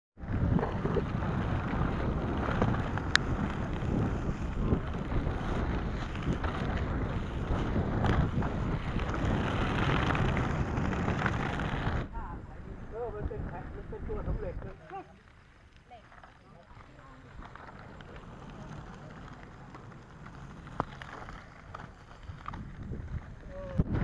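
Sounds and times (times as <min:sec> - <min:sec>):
wind buffeting microphone: 0:00.2 - 0:14.9, 0:17.2 - 0:24.0
skate wheels rolling on dirt: 0:00.2 - 0:24.0.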